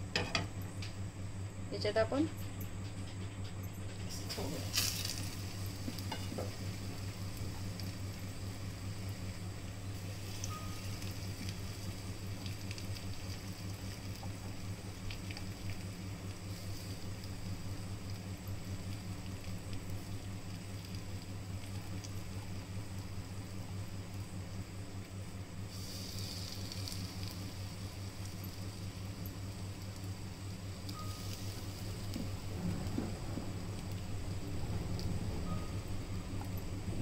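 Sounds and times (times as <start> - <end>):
low steady hum: 0.0 - 37.0
food sizzling in oil: 4.2 - 34.4.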